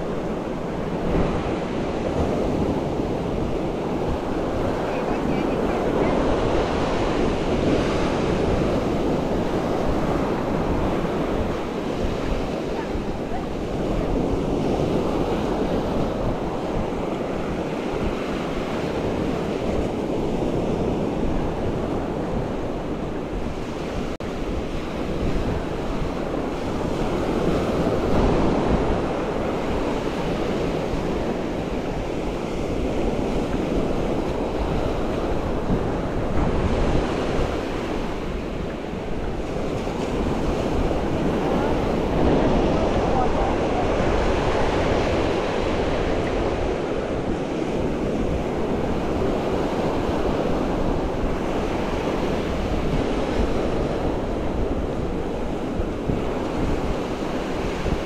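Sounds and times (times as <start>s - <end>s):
ocean waves breaking on shore: 0.0s - 58.0s
wind buffeting microphone: 0.0s - 58.0s.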